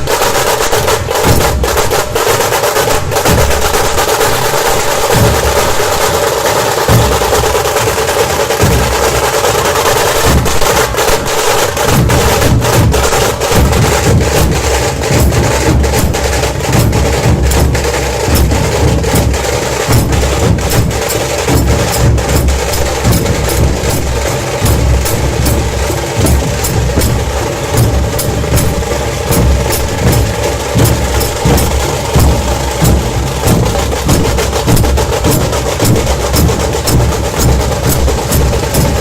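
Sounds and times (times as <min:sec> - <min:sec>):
dhol drums beating: 0:00.0 - 0:39.0
sharp tasha drum strokes: 0:00.0 - 0:39.0.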